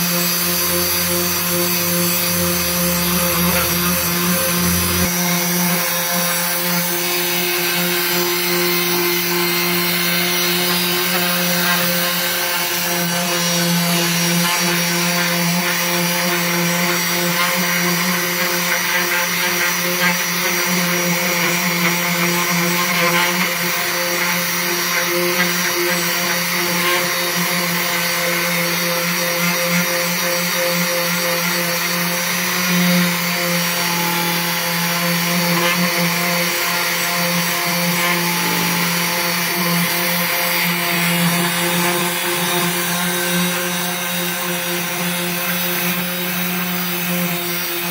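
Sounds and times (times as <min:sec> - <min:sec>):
orbital sander motor hum: 0:00.0 - 0:47.9
sandpaper hissing on painted wood: 0:00.0 - 0:47.9.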